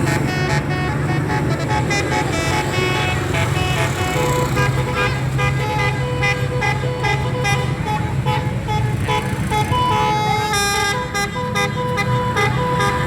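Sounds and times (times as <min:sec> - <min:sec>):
multi-tone horn melody: 0:00.0 - 0:13.0.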